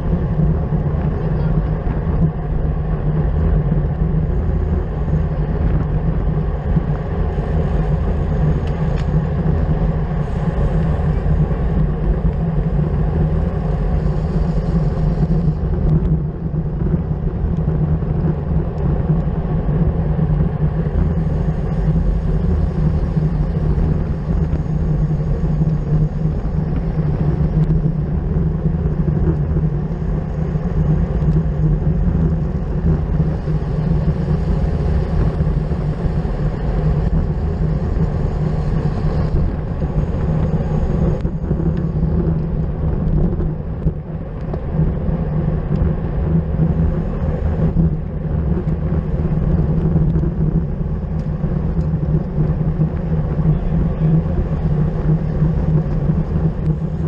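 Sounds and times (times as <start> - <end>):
road rumble: 0.0 - 57.0
wind rush on microphone: 0.0 - 57.0.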